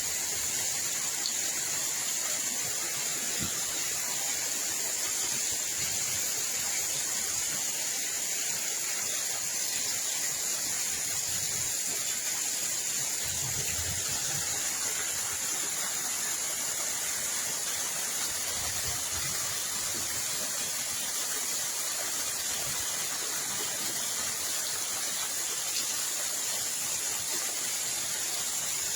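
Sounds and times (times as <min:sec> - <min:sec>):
rushing water hiss: 0:00.0 - 0:28.9.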